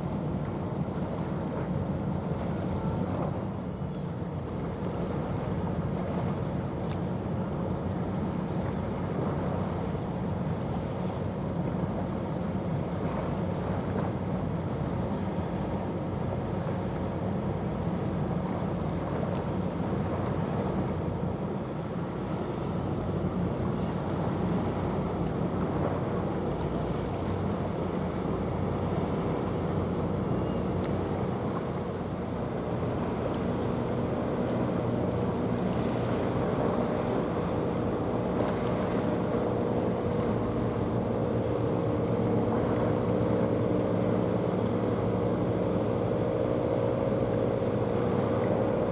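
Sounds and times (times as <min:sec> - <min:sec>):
ship engine low drone: 0:00.0 - 0:48.9
water wash: 0:00.0 - 0:48.9.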